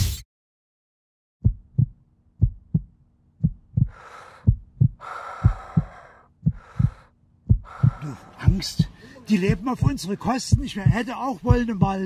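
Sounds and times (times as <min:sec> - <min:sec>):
heartbeat thuds: 0:01.4 - 0:12.0
steady low hum: 0:01.4 - 0:12.0.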